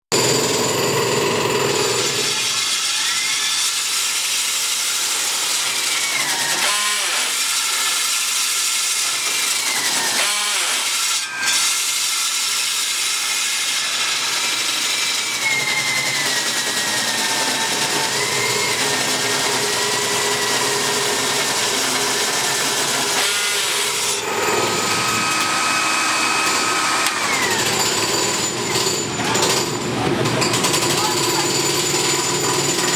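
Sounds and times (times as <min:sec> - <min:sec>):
core drill grinding: 0:00.0 - 0:32.9.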